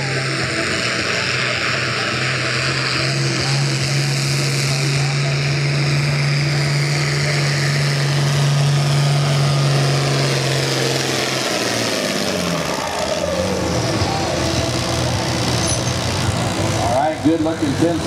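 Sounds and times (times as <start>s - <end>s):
tractor diesel engine running hard: 0.0s - 18.0s.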